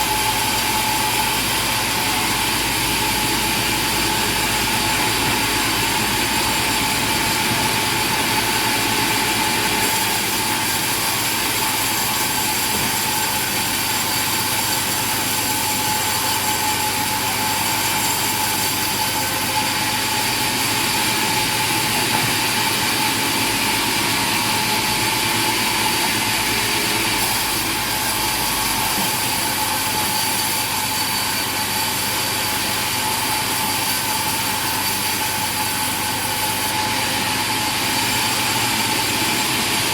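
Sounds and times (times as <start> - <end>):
machine whine and hum: 0.0 - 39.9.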